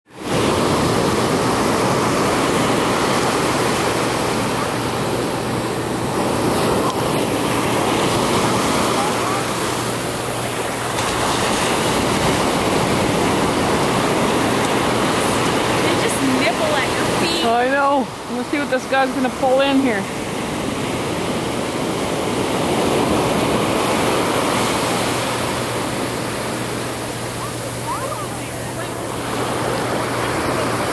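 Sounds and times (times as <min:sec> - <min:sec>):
ocean surf breaking: 0:00.1 - 0:30.9.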